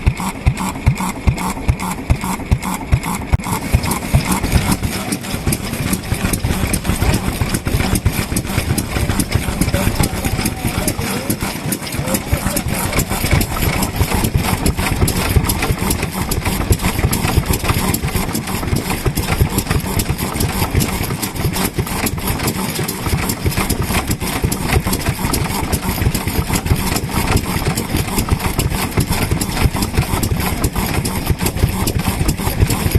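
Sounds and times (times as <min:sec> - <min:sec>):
stationary engine running: 0:00.0 - 0:32.9.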